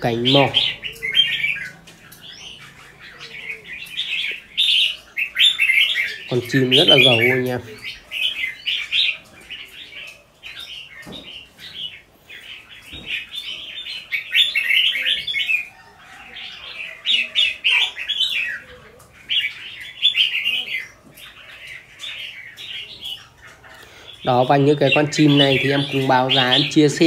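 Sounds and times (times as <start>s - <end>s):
birds singing chattering phrases: 0.0s - 27.0s.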